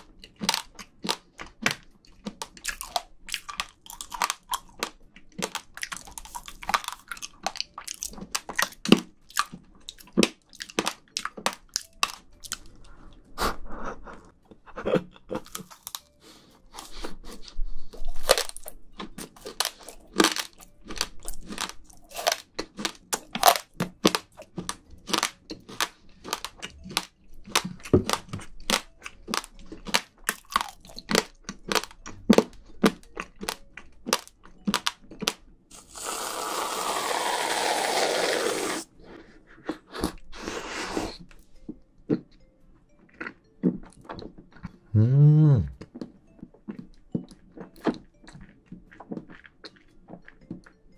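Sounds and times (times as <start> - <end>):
crunchy chewing: 0.0 - 44.9, 45.6 - 50.9.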